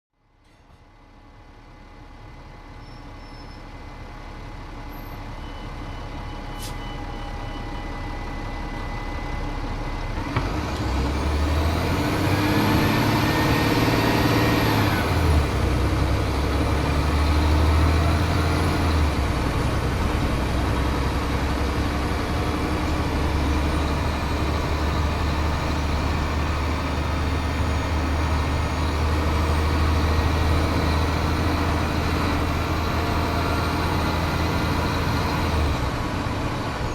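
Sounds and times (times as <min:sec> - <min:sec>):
bus diesel engine: 0:00.2 - 0:36.9.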